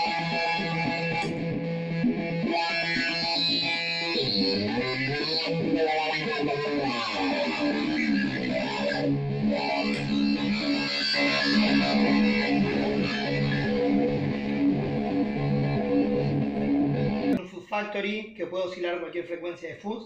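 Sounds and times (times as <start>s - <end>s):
distorted electric guitar: 0.0s - 17.4s.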